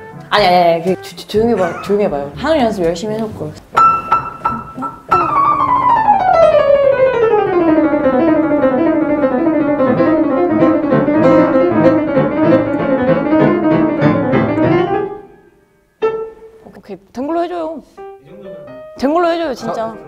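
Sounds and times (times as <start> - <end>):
fast piano playing: 0.0 - 15.4, 18.5 - 20.0.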